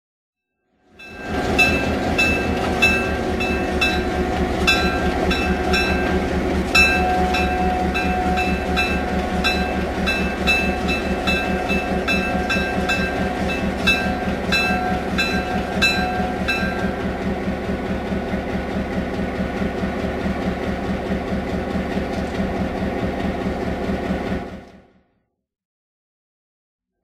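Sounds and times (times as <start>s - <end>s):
diesel locomotive idling: 1.0s - 25.0s.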